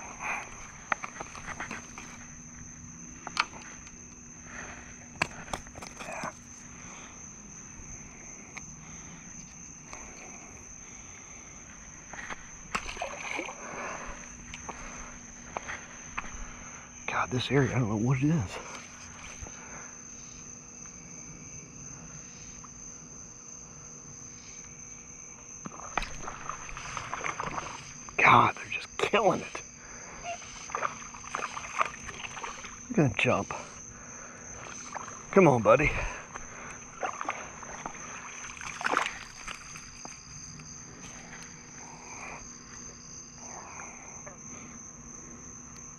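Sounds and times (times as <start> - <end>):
crickets chirping: 0.0 - 45.9
insect chorus trilling: 0.0 - 45.9.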